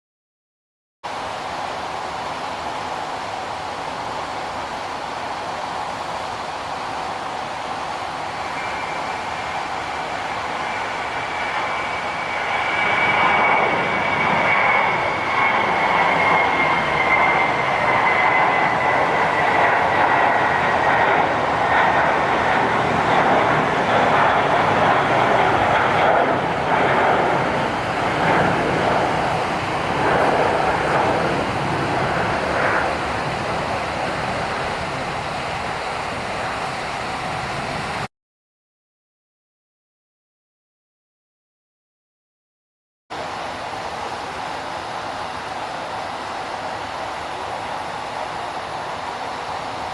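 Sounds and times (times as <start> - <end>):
jet engines roaring and whining: 1.1 - 38.1, 43.1 - 49.9.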